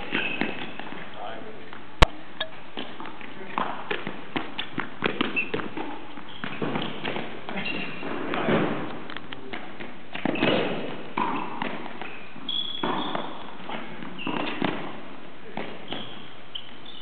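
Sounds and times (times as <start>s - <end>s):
shoes squeaking on floor: 0.0s - 1.2s, 2.4s - 17.0s.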